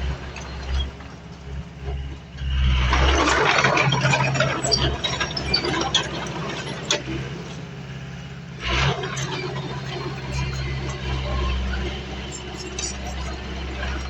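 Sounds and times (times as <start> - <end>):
bulldozer diesel engine: 0.0 - 14.0
tracks clanking and crackling: 0.0 - 14.0.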